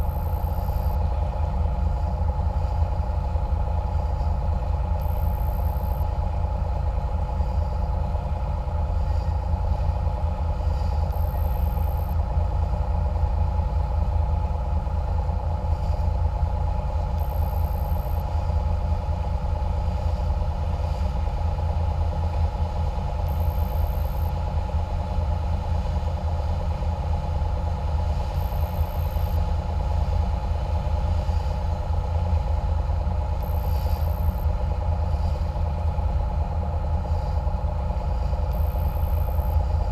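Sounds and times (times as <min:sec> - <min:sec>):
boat engine drone: 0:00.0 - 0:39.9
engine whine: 0:00.0 - 0:39.9.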